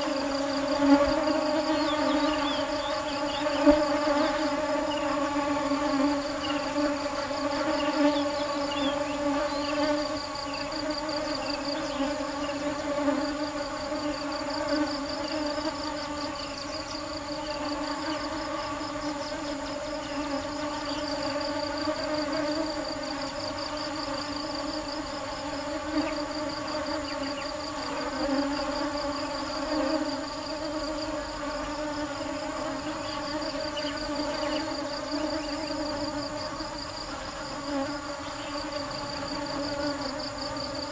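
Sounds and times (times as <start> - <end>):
honeybees buzzing: 0.0 - 40.9
insects chirping: 0.0 - 40.9.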